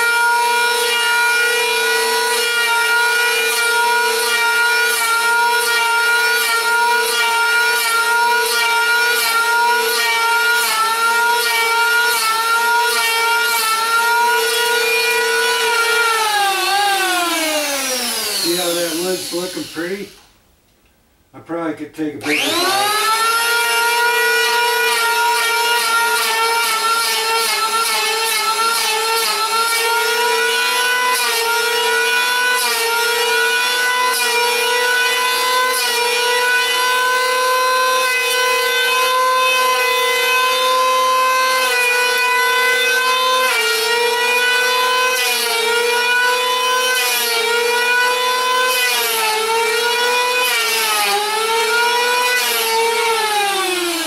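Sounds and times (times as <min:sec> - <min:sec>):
electric planer whining: 0:00.0 - 0:20.2, 0:22.2 - 0:54.0.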